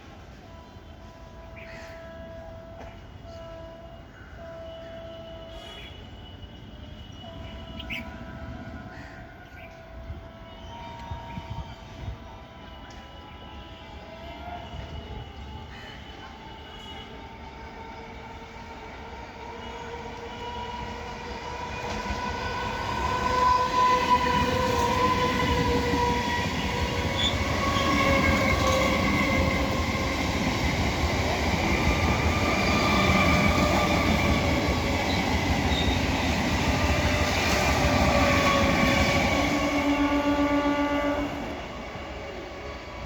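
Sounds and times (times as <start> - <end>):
train horn: 0.0 - 43.0
train rumbling past: 7.1 - 43.0.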